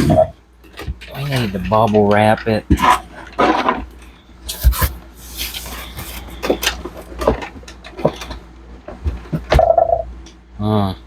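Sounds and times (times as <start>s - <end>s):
objects knocking and clacking: 0.0s - 4.9s, 6.0s - 10.4s.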